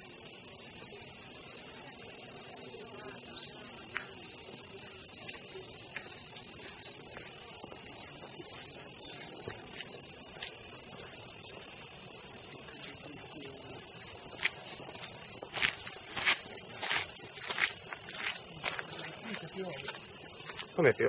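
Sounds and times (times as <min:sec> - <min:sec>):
cicadas chorus: 0:00.0 - 0:21.0
faint footsteps: 0:03.4 - 0:20.8.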